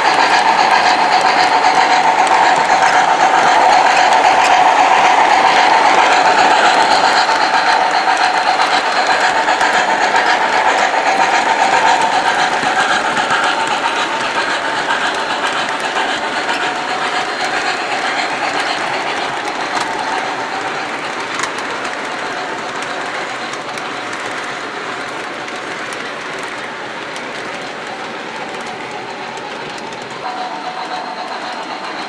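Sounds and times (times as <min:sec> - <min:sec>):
model train steam chuffing: 0:00.0 - 0:32.0
model train wheels and motor rattling: 0:00.0 - 0:32.0.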